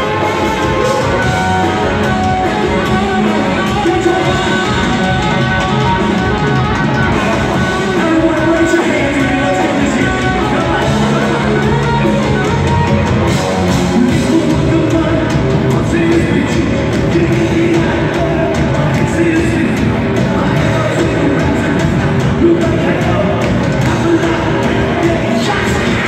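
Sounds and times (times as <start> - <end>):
man singing: 0.0 - 6.3, 6.9 - 26.0
drum kit: 0.0 - 26.0
electric guitars: 0.0 - 26.0.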